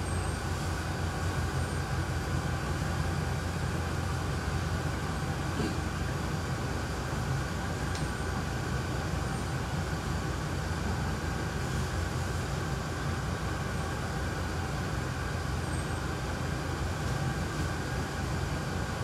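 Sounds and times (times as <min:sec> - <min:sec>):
faint steady whine: 0:00.0 - 0:19.0
train wheels rumbling on track: 0:00.0 - 0:19.0.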